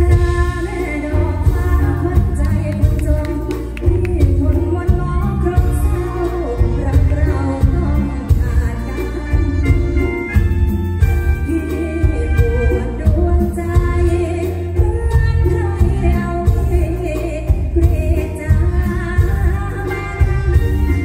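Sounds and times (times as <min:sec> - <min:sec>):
live band playing: 0:00.0 - 0:21.0
woman singing into a microphone: 0:00.0 - 0:21.0.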